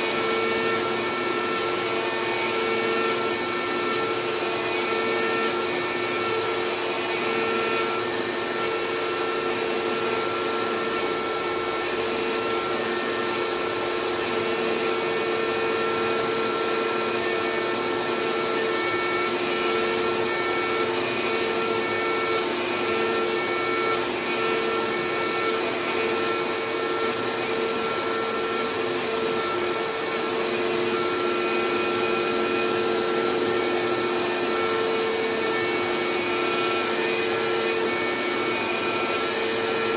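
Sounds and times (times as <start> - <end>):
router motor whine: 0.0 - 39.9.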